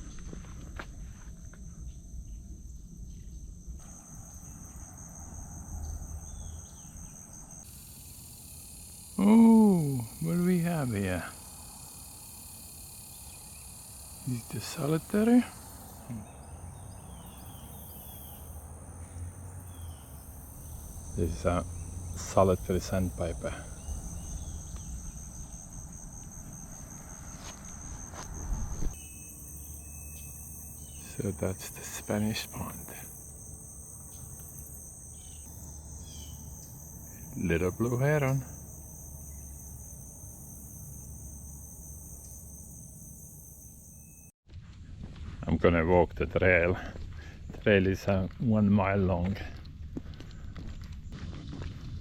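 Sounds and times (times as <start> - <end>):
insects trilling: 0.0 - 44.4.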